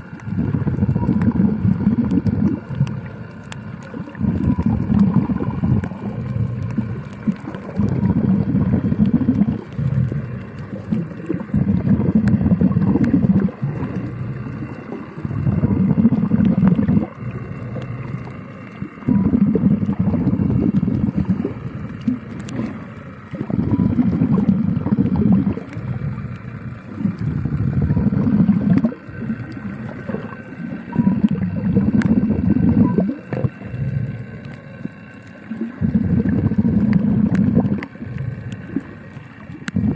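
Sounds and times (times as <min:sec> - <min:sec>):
low bubbling rush: 0:00.0 - 0:39.9.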